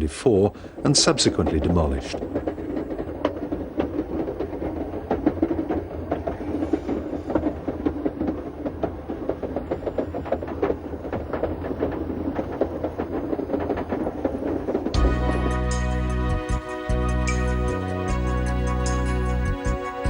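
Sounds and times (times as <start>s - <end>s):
clicking and rattling of wheels: 0.0s - 20.0s
train low hum: 0.0s - 20.0s.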